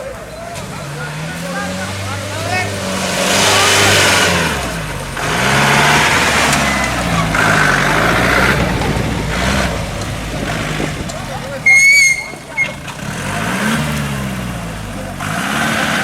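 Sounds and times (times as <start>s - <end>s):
jeep engine revving: 0.0s - 16.0s.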